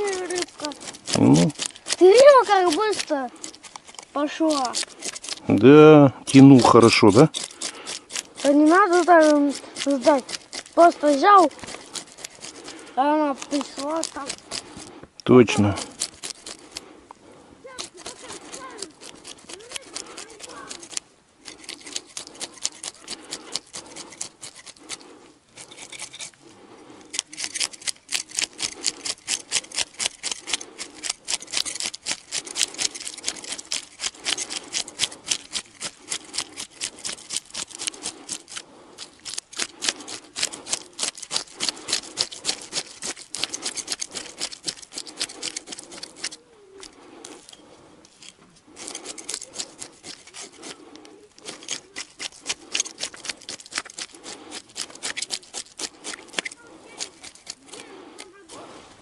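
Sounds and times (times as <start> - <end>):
knife scraping fish scales: 0.0 - 59.0.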